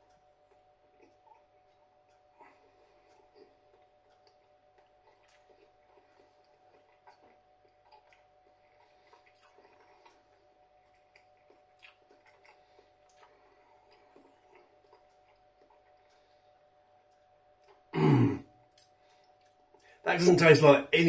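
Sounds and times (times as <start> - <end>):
person chewing: 0.0 - 20.0
faint steady hum: 0.0 - 21.0.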